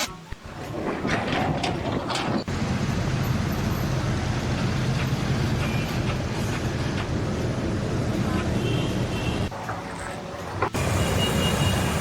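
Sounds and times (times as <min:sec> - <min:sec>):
heavy engine rumbling: 0:00.5 - 0:12.0.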